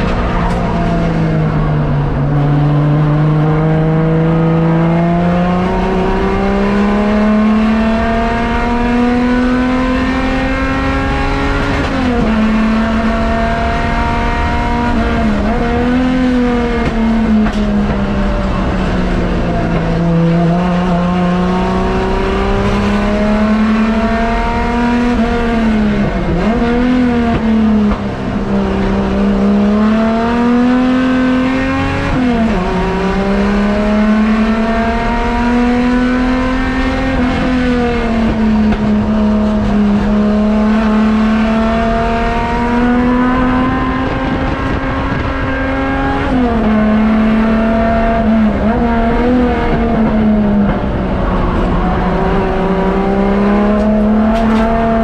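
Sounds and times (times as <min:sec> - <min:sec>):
car engine under load: 0:00.0 - 0:55.0.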